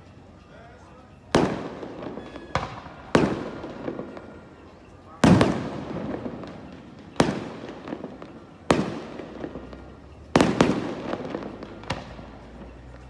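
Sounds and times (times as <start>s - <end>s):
fireworks shells bursting: 1.1s - 13.0s.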